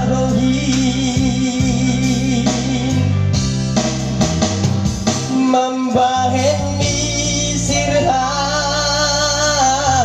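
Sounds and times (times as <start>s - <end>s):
person singing: 0.0s - 3.4s, 5.3s - 10.0s
instrumental backing track with bass: 0.0s - 10.0s.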